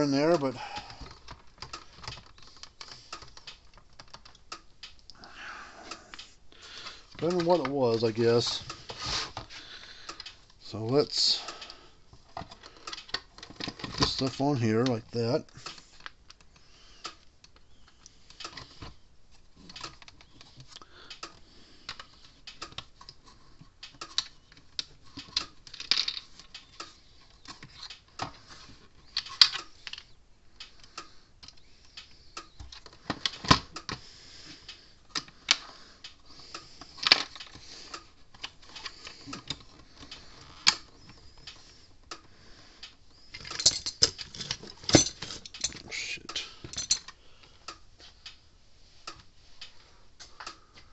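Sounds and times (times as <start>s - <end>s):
small parts and tools clattering: 0.0s - 4.7s, 6.1s - 19.0s, 19.6s - 30.2s, 30.9s - 47.2s.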